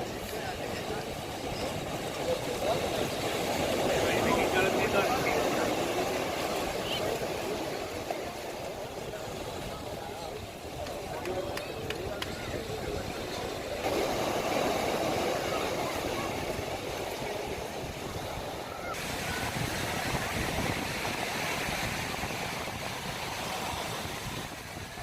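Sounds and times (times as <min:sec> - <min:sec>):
outdoor ambient rushing noise: 0:02.0 - 0:25.0.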